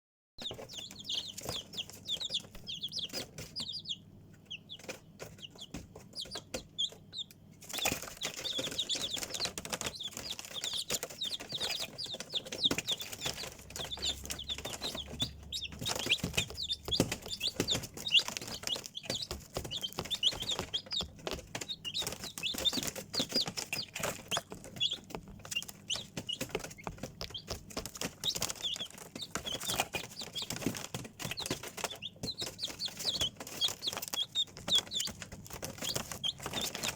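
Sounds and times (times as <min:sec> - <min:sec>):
chicks peeping: 0:00.4 - 0:36.9.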